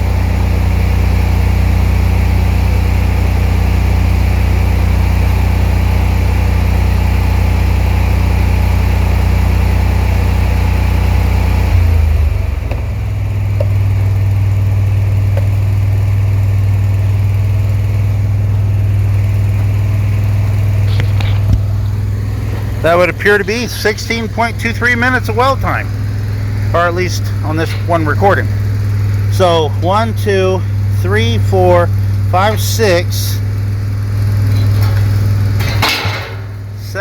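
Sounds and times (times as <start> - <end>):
welder engine running: 0.0 - 37.0.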